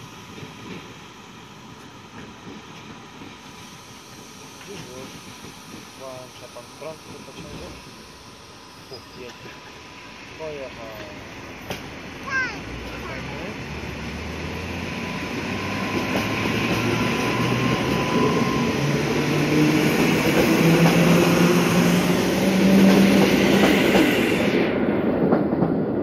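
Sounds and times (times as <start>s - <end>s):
wheels running on rail: 0.0s - 26.0s
train traction motors whining: 3.2s - 24.6s.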